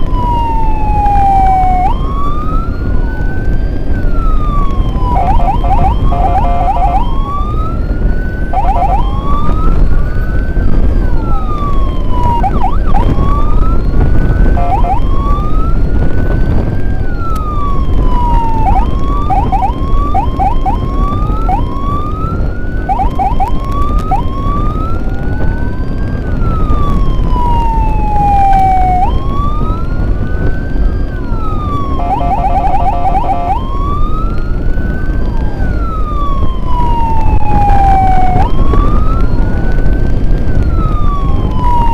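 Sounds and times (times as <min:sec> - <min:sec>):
emergency sirens wailing: 0:00.0 - 0:41.9
road and wind rumble: 0:00.0 - 0:41.9
siren yelping chirps: 0:00.2 - 0:30.3, 0:30.9 - 0:39.8.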